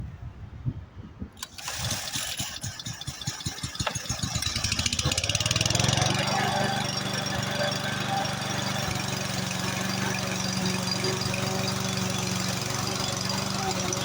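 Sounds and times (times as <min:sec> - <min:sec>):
lawn mower engine starting: 0:01.4 - 0:14.0.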